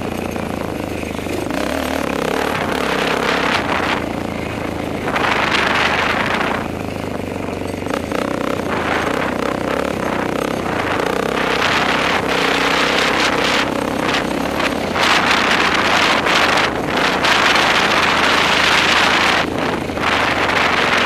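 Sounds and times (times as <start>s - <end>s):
atv engine under throttle: 0.0s - 21.0s
wind rushing over microphone: 0.0s - 21.0s.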